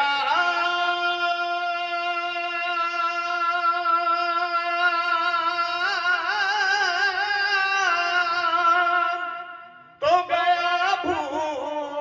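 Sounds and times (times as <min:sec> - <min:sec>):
man singing a long chant note: 0:00.0 - 0:12.0.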